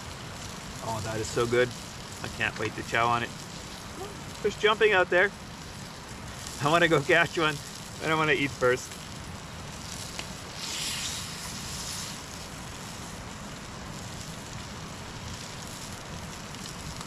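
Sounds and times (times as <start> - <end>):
campfire hissing: 0.0 - 17.0
fire crackles: 0.0 - 17.0.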